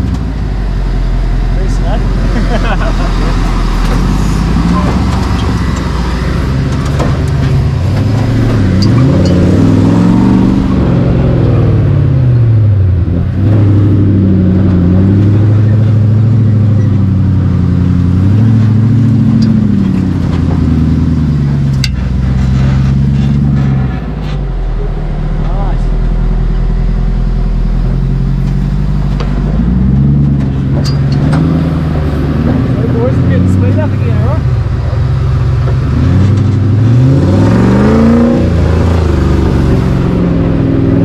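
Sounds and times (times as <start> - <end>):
buggy engine revving: 0.0 - 41.0.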